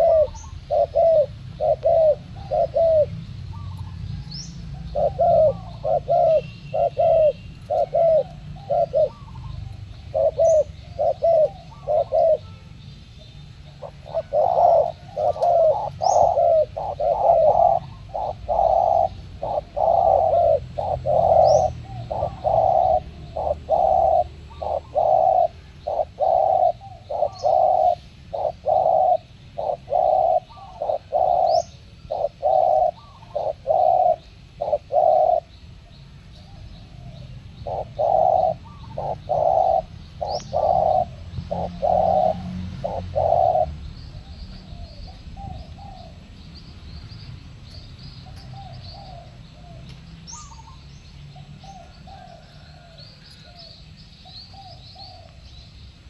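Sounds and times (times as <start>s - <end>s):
doves cooing: 0.0s - 12.8s, 13.4s - 46.4s, 47.6s - 55.5s.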